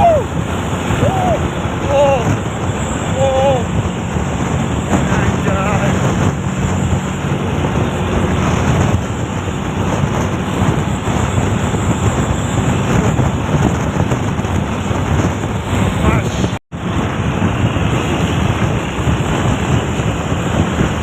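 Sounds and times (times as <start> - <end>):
vehicle engine and road noise: 0.0 - 21.0
wind buffeting microphone: 0.0 - 21.0.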